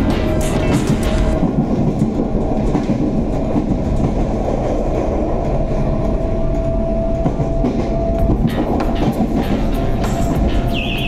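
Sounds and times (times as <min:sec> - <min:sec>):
clickety-clack over track: 0:00.0 - 0:11.0
train wheels rumbling on rails: 0:00.0 - 0:11.0.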